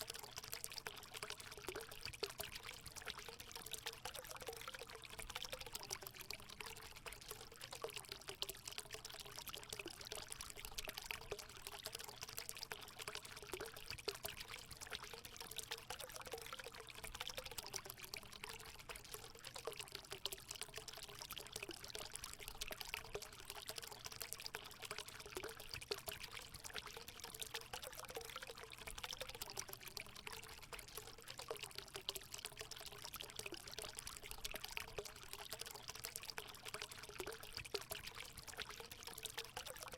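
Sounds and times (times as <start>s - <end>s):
water pouring into a pool: 0.0s - 39.9s.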